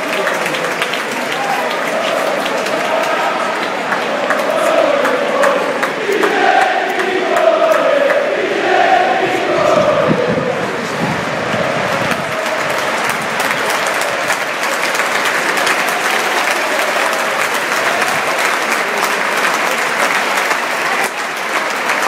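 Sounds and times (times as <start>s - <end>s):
crowd chanting: 0.0s - 22.0s
stadium crowd clapping: 0.0s - 22.0s.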